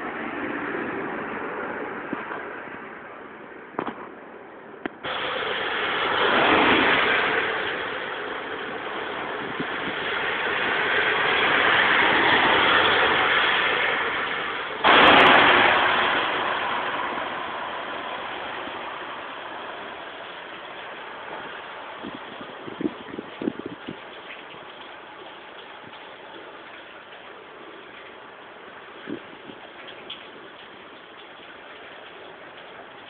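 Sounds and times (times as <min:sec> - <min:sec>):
tyres hissing on wet road: 0:05.0 - 0:33.0.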